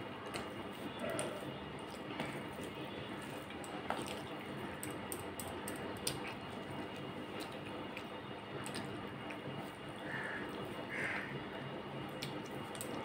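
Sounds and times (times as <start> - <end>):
fingers squishing wet food: 0.2 - 11.3.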